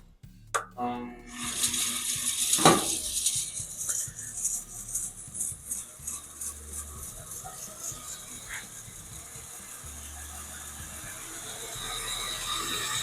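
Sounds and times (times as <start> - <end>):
grinder rattling as it spins up: 1.3 - 13.0.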